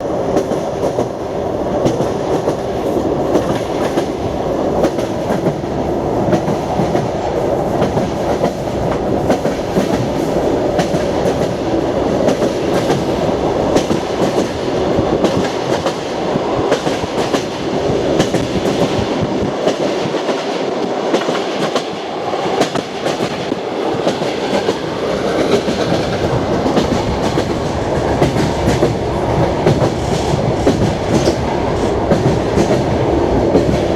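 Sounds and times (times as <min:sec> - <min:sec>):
train rumbling inside car: 0:00.0 - 0:33.9.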